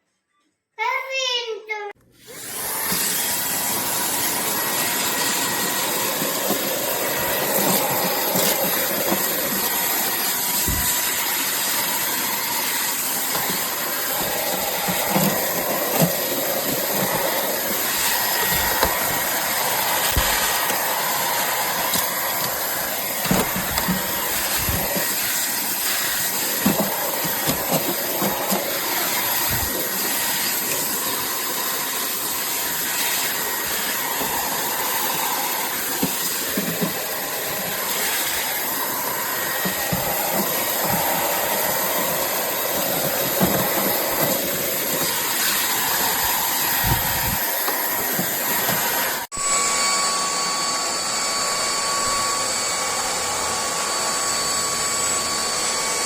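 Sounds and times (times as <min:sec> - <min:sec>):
stick vacuum running: 0:02.2 - 0:56.0.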